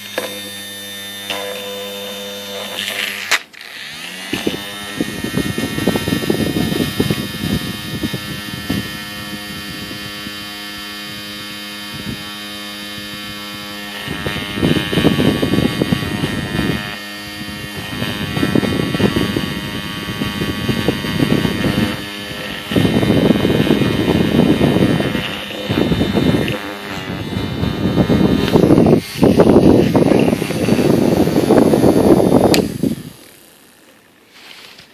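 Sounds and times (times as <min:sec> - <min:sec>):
toy fan motor whining: 0:00.0 - 0:34.9.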